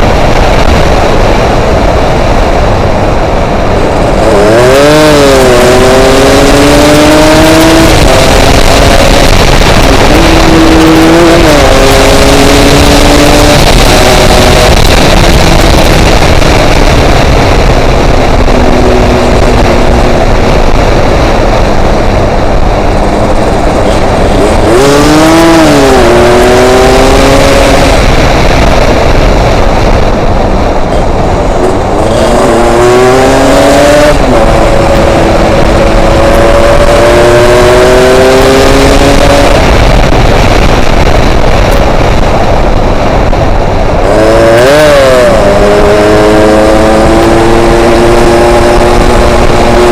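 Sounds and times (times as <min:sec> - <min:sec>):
motorcycle engine revving: 0:00.0 - 0:49.9
wind roar on microphone: 0:00.0 - 0:49.9.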